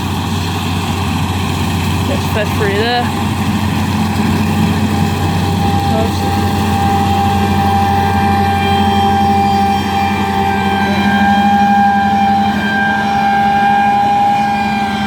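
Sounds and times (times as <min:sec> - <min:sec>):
harvest machinery engine drone: 0:00.0 - 0:15.0
machinery whine: 0:00.0 - 0:15.0.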